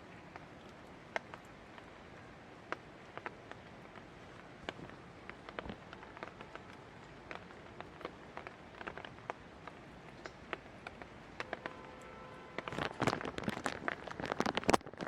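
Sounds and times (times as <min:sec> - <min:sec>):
light rain hissing: 0:00.0 - 0:15.0
raindrops ticking on hard surface: 0:00.0 - 0:15.0.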